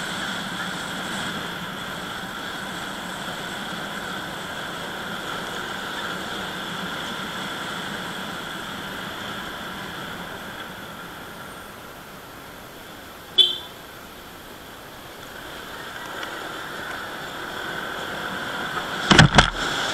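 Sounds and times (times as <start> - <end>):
vehicle engine and road noise: 0.0 - 19.9.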